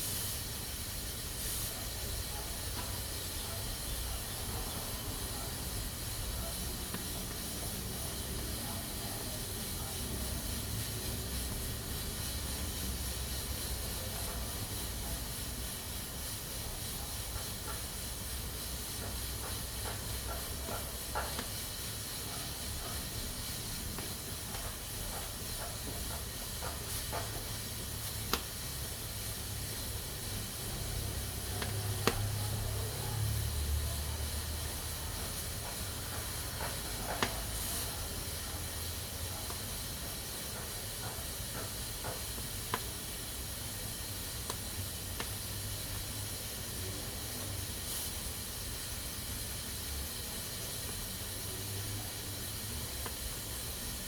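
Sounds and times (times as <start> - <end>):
pressure cooker hissing steam: 0.0 - 54.0.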